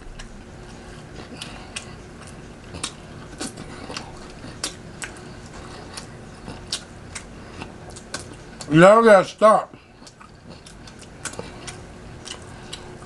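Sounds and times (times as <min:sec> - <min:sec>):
person chewing food: 0:00.0 - 0:08.7, 0:09.7 - 0:13.0.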